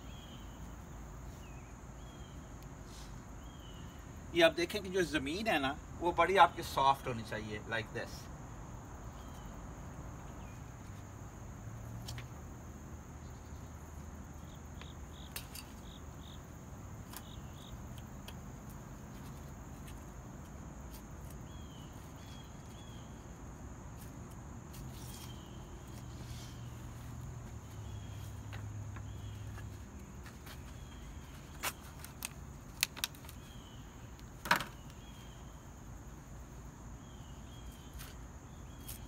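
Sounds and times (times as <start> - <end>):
high insect trill: 0.0 - 39.0.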